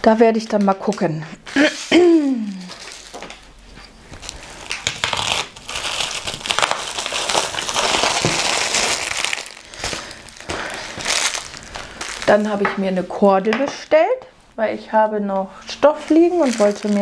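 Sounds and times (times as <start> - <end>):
packaging crinkling: 0.6 - 13.2, 15.9 - 17.0.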